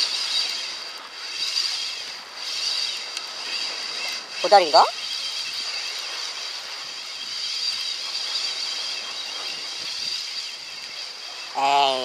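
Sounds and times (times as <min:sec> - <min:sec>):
fishing reel winding: 0:00.0 - 0:12.0.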